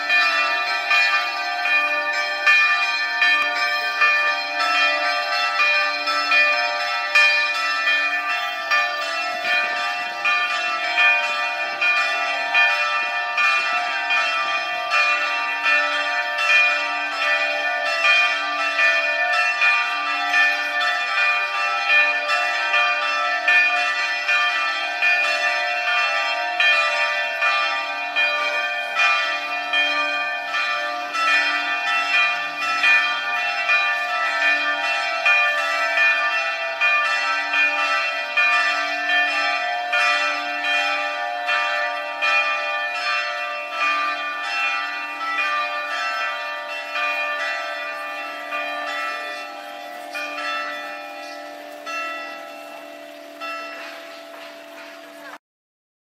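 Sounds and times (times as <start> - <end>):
church bells ringing: 0.0 - 55.4.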